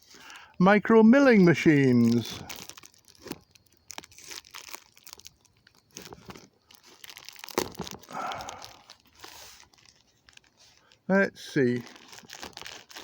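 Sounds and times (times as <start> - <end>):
parcel packaging crinkling: 0.0 - 13.0.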